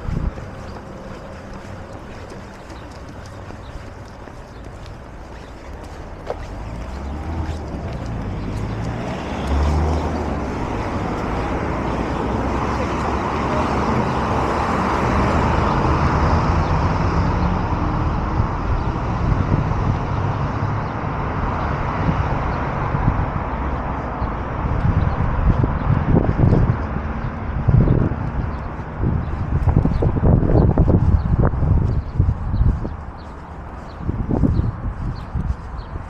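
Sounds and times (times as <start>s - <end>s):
car passing: 0.0s - 36.0s.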